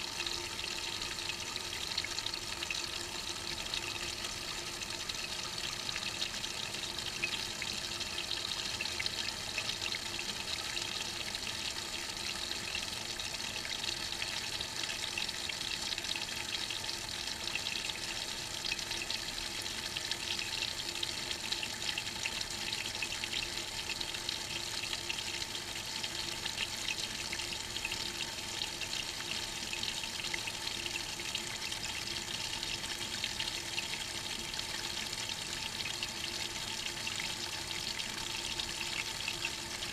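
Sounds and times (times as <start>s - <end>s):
water running into washing machine: 0.0s - 39.9s.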